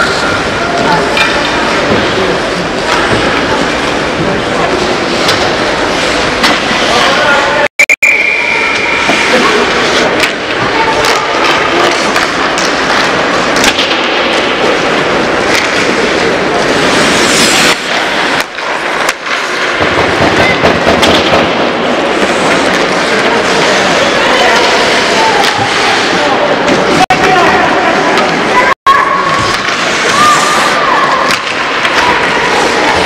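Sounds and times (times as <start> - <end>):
skates scraping ice: 0.0 - 7.6, 8.5 - 33.0
hockey sticks clacking: 0.0 - 33.0.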